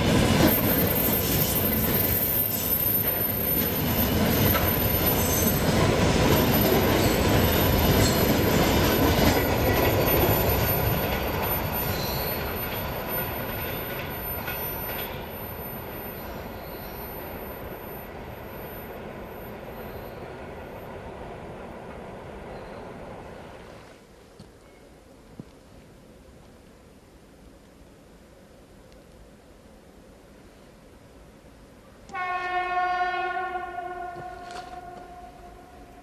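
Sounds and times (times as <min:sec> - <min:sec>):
train rolling past on rails: 0:00.0 - 0:24.0, 0:30.0 - 0:36.0.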